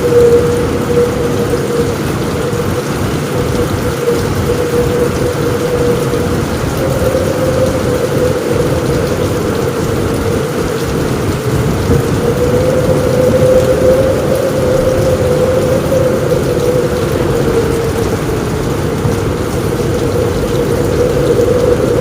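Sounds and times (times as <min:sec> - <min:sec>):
constant droning note: 0:00.0 - 0:22.0
heavy rain on a roof: 0:00.0 - 0:22.0
low rumble of thunder: 0:00.0 - 0:22.0.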